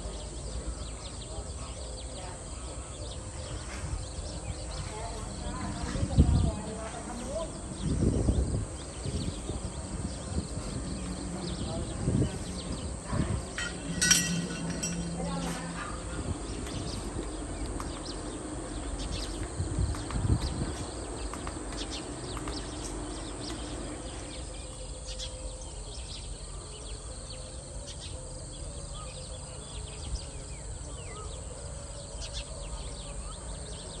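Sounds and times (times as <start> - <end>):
birds chirping: 0.0 - 34.0
insects: 0.0 - 34.0.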